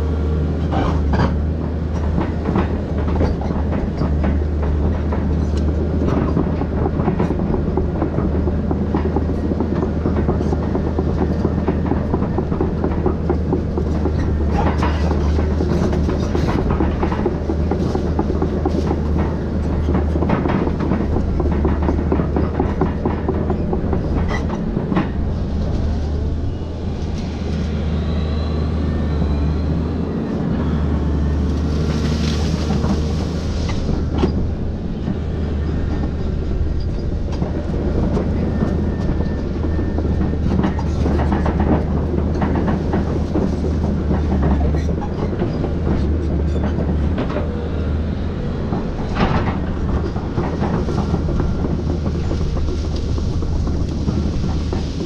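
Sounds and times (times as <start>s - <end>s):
excavator diesel engine running: 0.0s - 55.0s
machine clanks and knocks: 0.6s - 27.4s, 31.4s - 55.0s.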